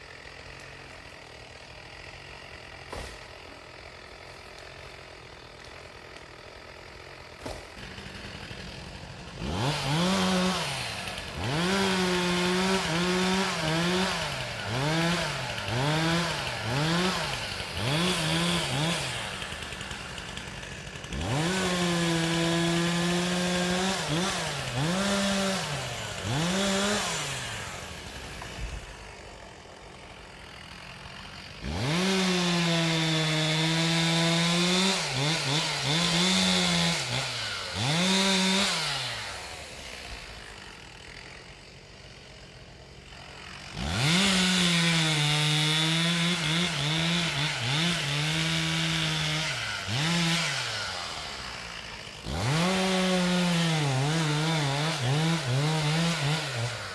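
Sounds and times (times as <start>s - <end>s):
chainsaw revving and idling: 0.0s - 56.9s.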